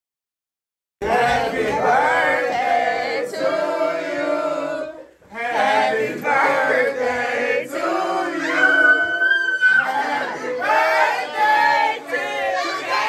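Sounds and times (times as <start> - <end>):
voices singing together: 1.0 - 13.0.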